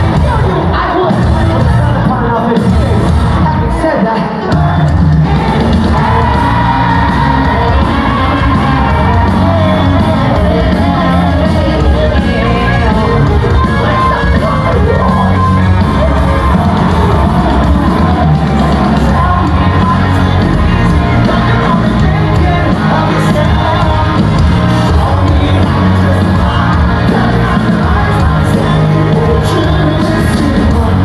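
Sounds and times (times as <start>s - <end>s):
lead vocals: 0.0s - 31.0s
rock band playing live: 0.0s - 31.0s
crowd shouting along: 3.1s - 31.0s.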